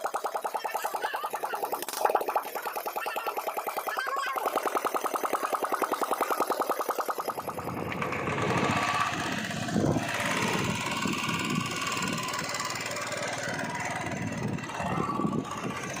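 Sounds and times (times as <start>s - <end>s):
single-cylinder engine running: 0.0s - 16.0s.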